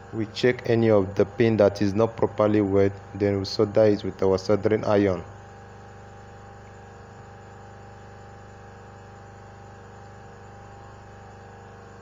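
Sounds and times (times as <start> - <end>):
buzzy electrical hum: 0.0 - 12.0.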